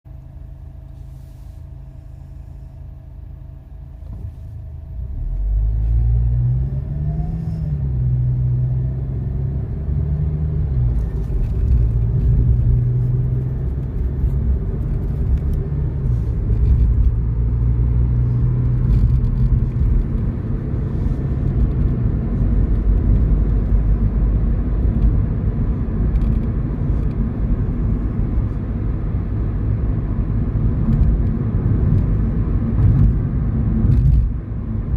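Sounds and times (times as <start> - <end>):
road rumble: 0.1 - 34.9
car engine accelerating: 3.7 - 34.9.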